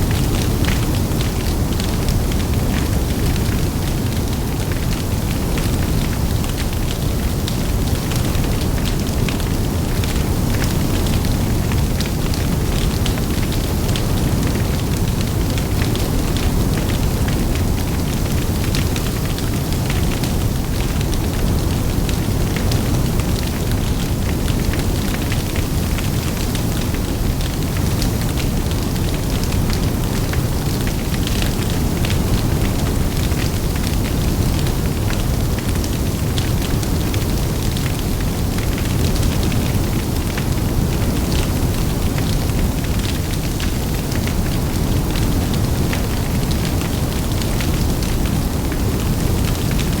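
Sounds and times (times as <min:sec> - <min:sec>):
bonfire flames rumbling: 0:00.0 - 0:50.0.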